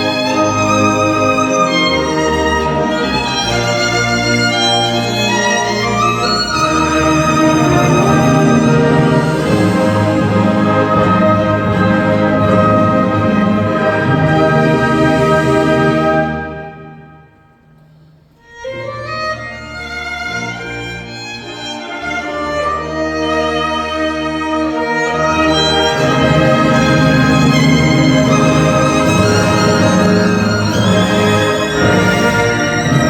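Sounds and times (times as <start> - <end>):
solo violin playing: 0.0 - 16.4, 18.4 - 33.0
church orchestra playing: 0.0 - 33.0.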